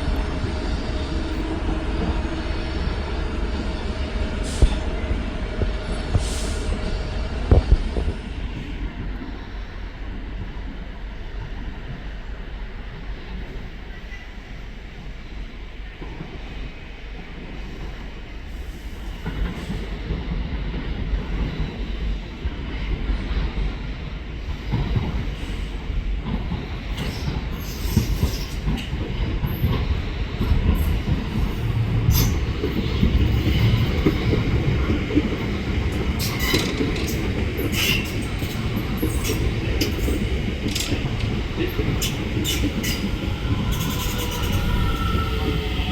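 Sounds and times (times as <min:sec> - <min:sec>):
passenger train approaching: 0:00.0 - 0:45.9.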